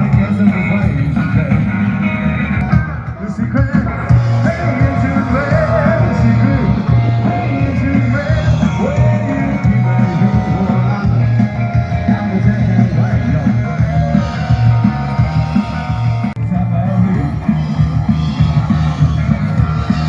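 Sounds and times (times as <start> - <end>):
person singing: 0.0 - 20.0
rock music with electric guitar: 0.0 - 20.0.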